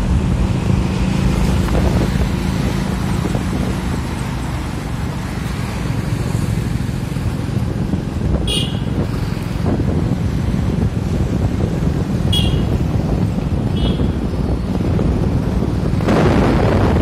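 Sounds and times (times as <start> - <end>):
cars passing: 0.0 - 17.0
wind buffeting microphone: 0.0 - 17.0.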